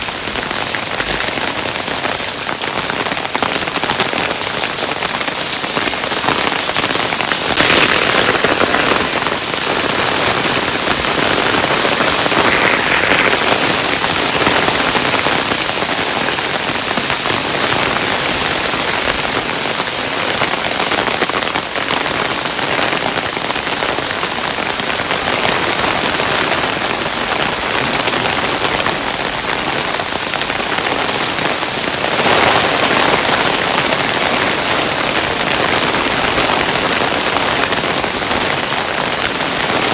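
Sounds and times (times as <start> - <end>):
hailstones pattering: 0.0 - 39.9.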